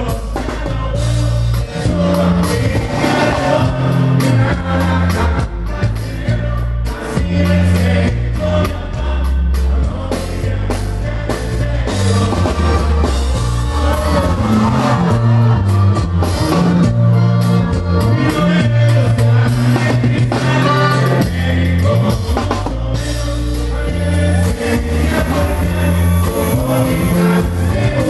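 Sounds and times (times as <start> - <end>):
bass line: 0.0 - 28.0
drums: 0.0 - 28.0
live band music: 0.0 - 28.0
person singing: 0.0 - 28.0.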